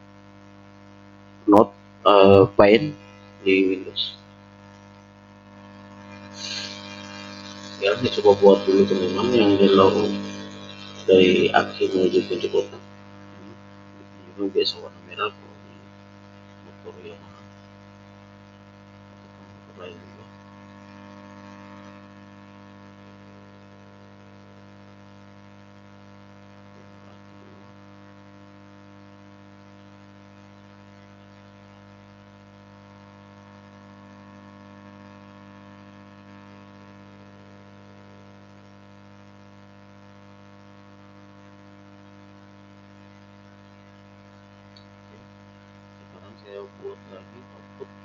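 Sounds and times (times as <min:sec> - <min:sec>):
electrical hum: 0:00.8 - 0:25.4, 0:26.6 - 0:28.3, 0:32.2 - 0:38.9, 0:42.3 - 0:48.0.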